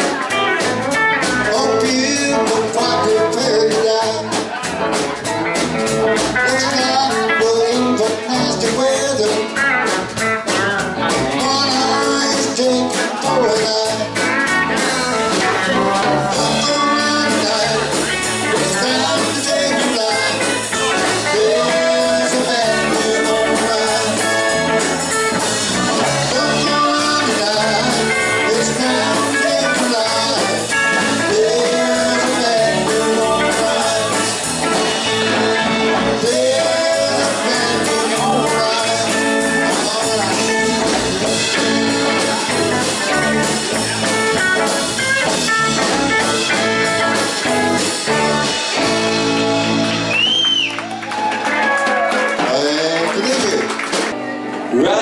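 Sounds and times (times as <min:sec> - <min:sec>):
drum kit: 0:00.0 - 0:54.2
bass guitar: 0:00.0 - 0:55.0
electric guitars: 0:00.0 - 0:55.0.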